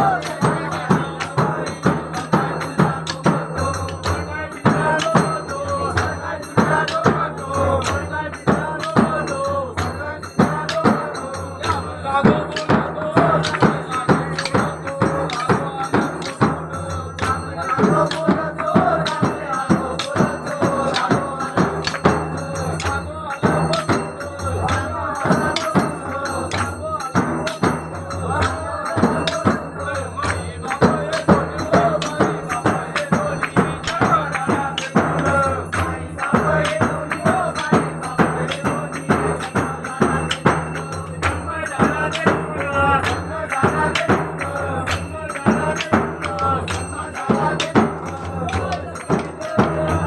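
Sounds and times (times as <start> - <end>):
jingling tambourine-like percussion: 0.0 - 50.0
person singing: 0.0 - 50.0
steady drum beat: 0.0 - 50.0.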